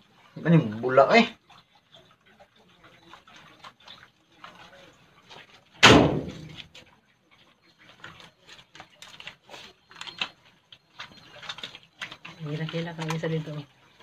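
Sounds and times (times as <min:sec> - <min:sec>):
wet crackles and squelches: 0:00.0 - 0:14.0.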